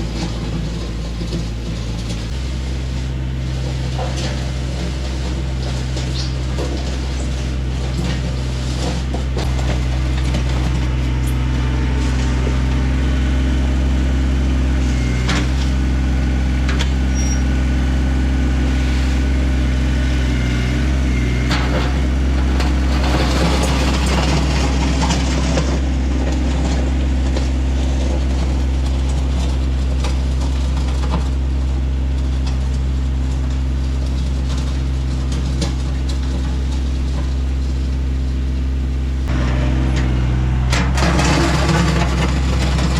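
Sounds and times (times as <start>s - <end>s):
diesel engine running: 0.0s - 42.9s
gravel scraping and rattling: 0.0s - 42.9s.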